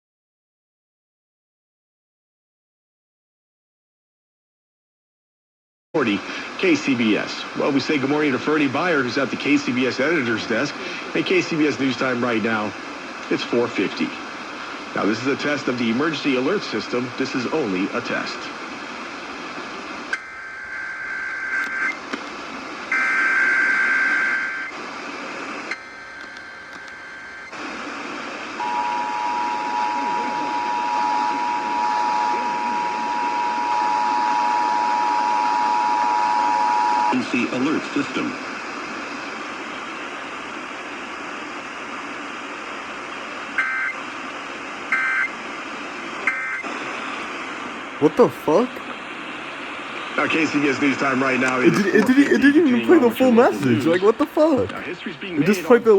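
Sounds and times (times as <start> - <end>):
radio hiss: 6.0 - 55.9.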